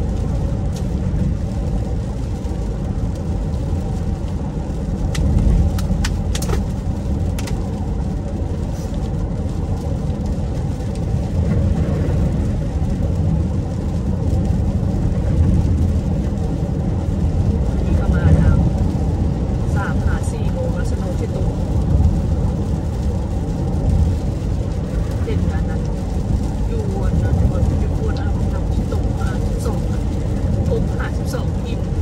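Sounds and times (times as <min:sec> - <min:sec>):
car cabin road rumble: 0:00.0 - 0:32.0.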